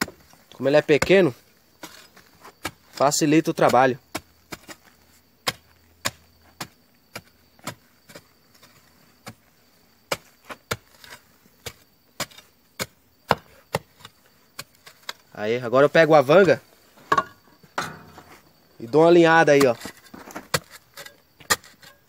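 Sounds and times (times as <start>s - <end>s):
hoe chopping into clay soil: 0.0s - 15.3s, 16.3s - 22.0s.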